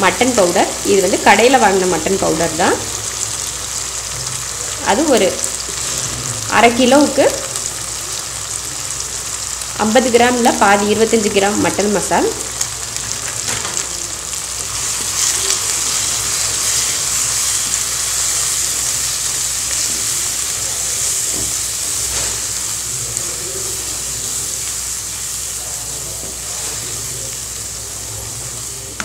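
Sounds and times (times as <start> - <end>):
masala sizzling in hot oil: 0.0 - 29.0.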